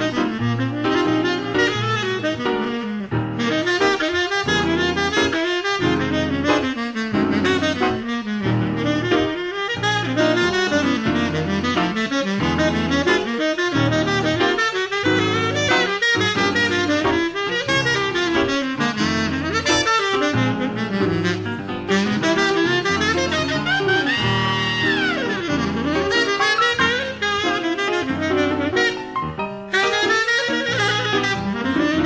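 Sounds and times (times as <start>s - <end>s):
double bass line: 0.0s - 29.8s, 30.4s - 32.0s
saxophone playing quick runs: 0.0s - 32.0s.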